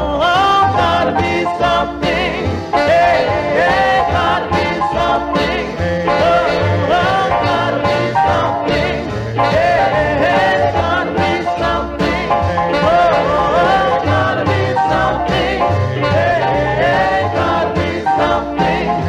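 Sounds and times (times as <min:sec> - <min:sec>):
rhythm and blues instrumental: 0:00.0 - 0:19.0.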